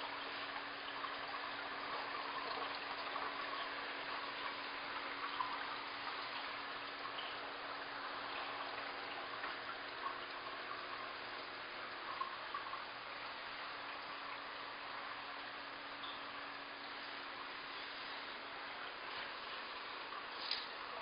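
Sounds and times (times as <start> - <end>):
aquarium water trickling: 0.0 - 21.0
faint steady hum: 0.0 - 21.0.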